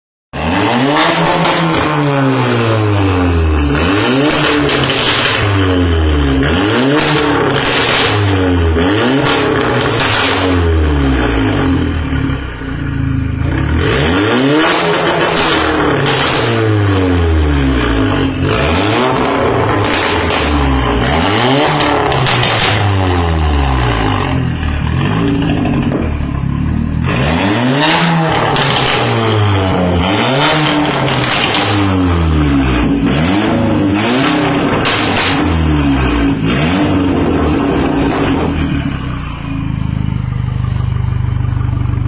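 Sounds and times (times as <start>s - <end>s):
exhaust cracks: 0.4s - 11.9s, 13.4s - 42.0s
car engine revving: 0.4s - 42.0s.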